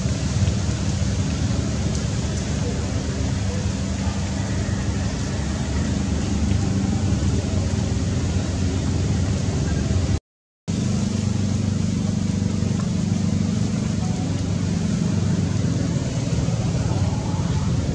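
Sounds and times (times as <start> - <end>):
background noise haze: 0.0 - 17.9
low droning hum: 0.0 - 17.9.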